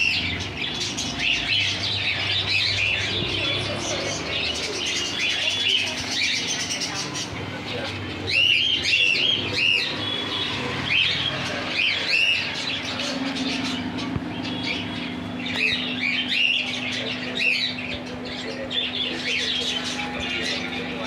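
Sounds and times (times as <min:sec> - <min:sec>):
small birds chirping and squawking: 0:00.0 - 0:21.0
steady low hum: 0:00.0 - 0:21.0.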